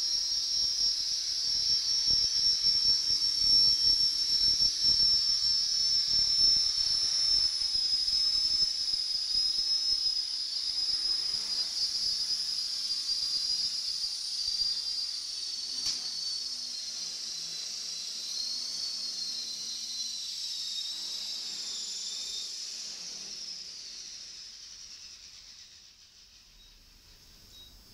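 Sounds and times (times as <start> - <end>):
model helicopter motor whine: 0.0 - 27.9.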